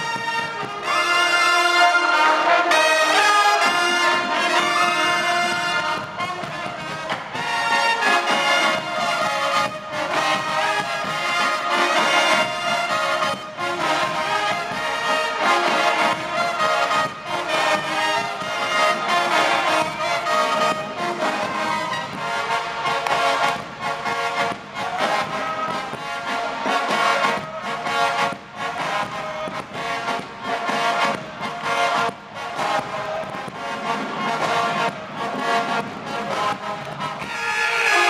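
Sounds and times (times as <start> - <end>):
brass band playing: 0.0 - 38.0
drums keeping a beat: 0.0 - 38.0.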